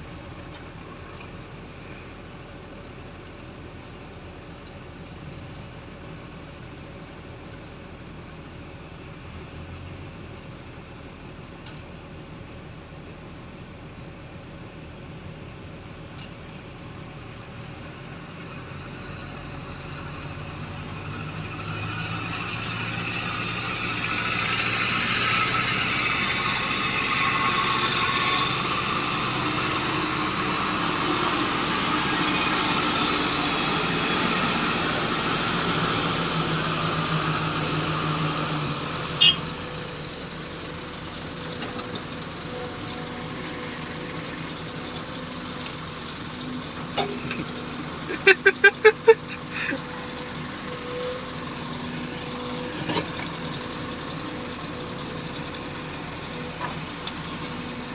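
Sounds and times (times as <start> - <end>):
heavy vehicle engine running: 0.0 - 57.9.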